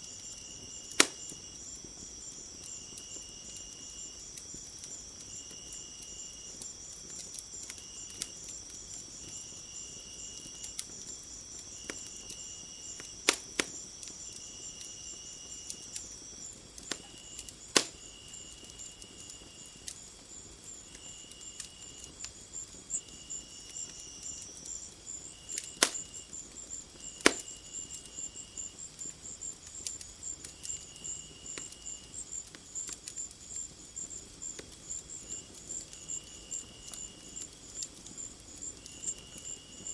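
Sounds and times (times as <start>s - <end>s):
crickets trilling: 0.0s - 39.9s
wood fire crackling: 0.0s - 39.9s.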